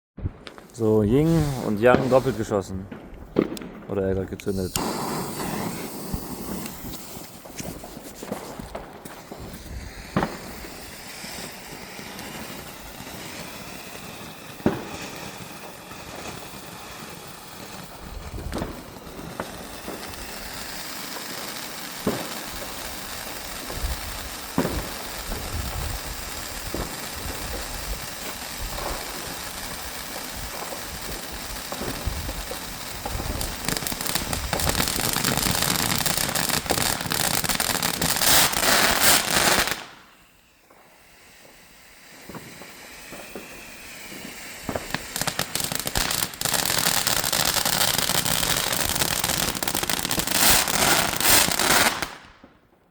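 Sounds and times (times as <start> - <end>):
fireworks bang: 0.2 - 16.6, 17.6 - 41.6, 42.2 - 52.6
fireworks hissing and crackling: 0.2 - 52.9.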